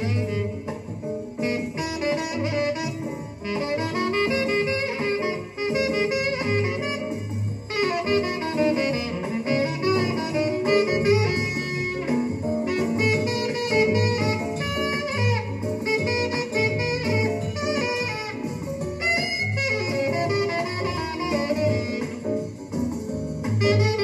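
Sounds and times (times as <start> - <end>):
jazz with saxophone lead: 0.0 - 24.0.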